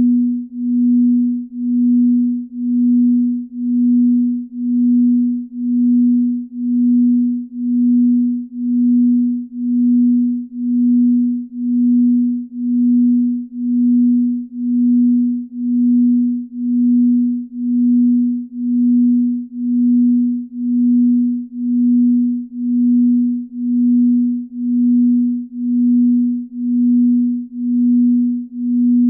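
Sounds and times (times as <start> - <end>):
low pulsing pure tone: 0.0 - 29.0.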